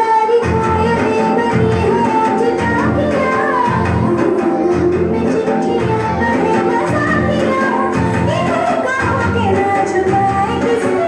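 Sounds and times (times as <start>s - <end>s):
instrumental backing music: 0.0s - 11.0s
person singing: 0.0s - 11.0s.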